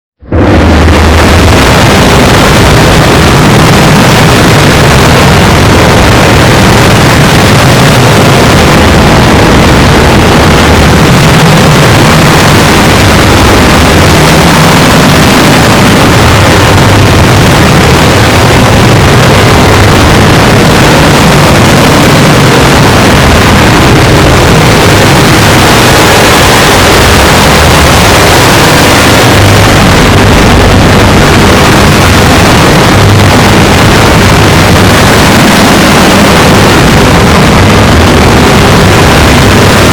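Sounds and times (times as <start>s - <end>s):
loud distorted noise: 0.0s - 39.9s.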